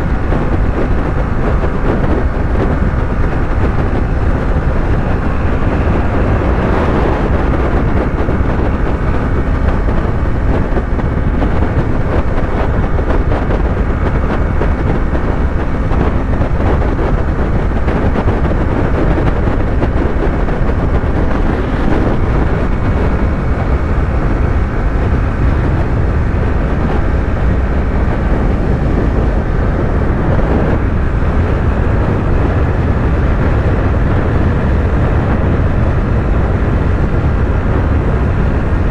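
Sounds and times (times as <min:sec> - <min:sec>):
motorcycle engine cruising: 0:00.0 - 0:38.9
road noise: 0:00.0 - 0:38.9
wind rush: 0:00.0 - 0:38.9.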